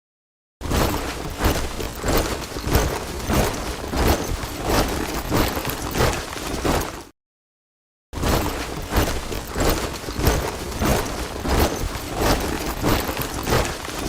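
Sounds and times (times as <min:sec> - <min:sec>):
soldiers marching in step: 0:00.8 - 0:07.1, 0:08.4 - 0:14.0.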